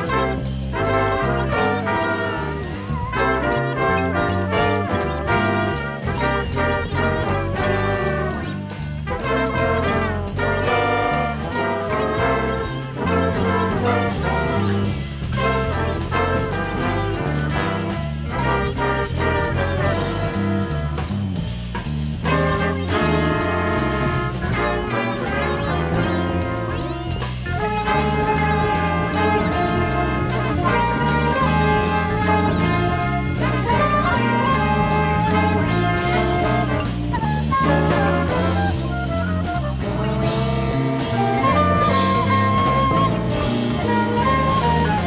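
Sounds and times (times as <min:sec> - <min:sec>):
bass line: 0:00.0 - 0:45.0
jazz brass ensemble: 0:00.0 - 0:45.0.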